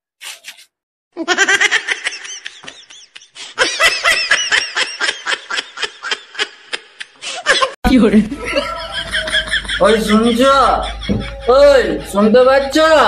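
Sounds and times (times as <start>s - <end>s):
high-pitched laughter: 1.2s - 7.8s, 8.4s - 13.0s.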